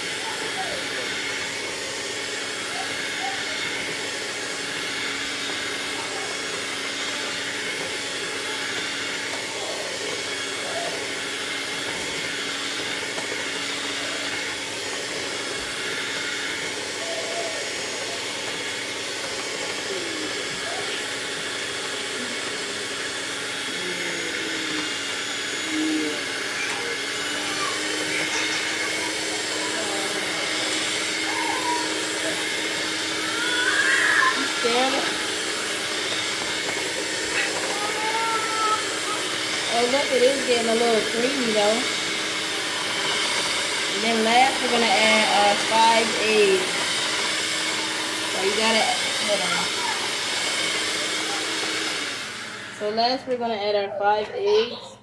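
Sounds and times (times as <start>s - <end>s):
electric hand mixer whirring: 0.0s - 55.0s.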